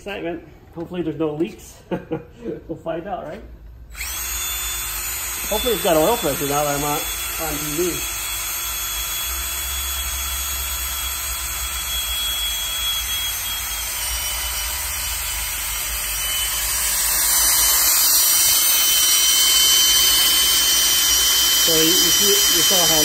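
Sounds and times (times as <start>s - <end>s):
cordless drill running: 3.9s - 23.0s.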